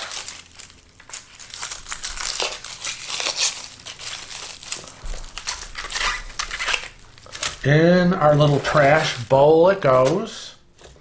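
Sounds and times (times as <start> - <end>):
onion skin crinkling: 0.0 - 11.0.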